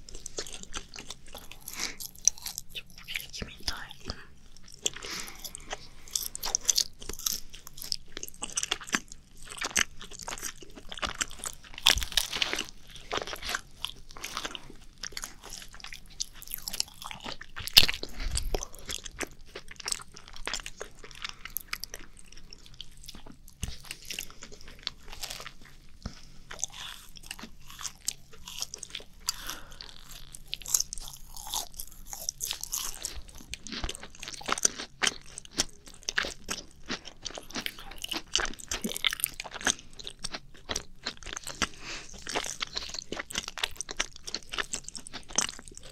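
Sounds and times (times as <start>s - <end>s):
crunchy biting and chewing: 0.0s - 45.9s.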